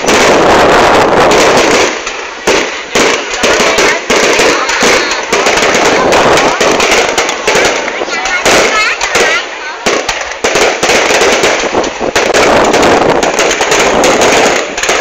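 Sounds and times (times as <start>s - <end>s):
fireworks and firecrackers popping: 0.0s - 15.0s.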